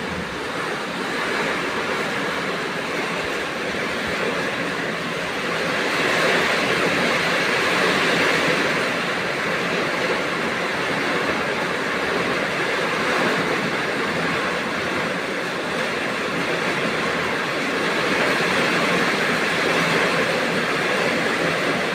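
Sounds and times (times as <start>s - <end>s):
heavy rain in strong wind: 0.0s - 21.9s.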